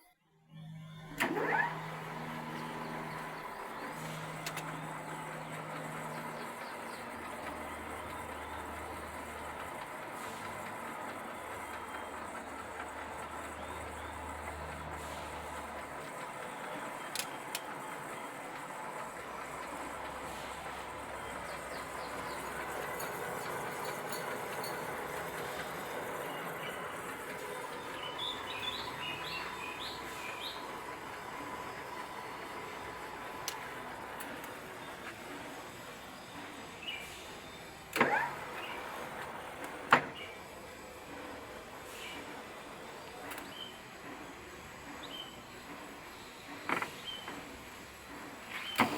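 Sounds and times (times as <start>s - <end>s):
metal lathe humming: 1.0s - 48.8s.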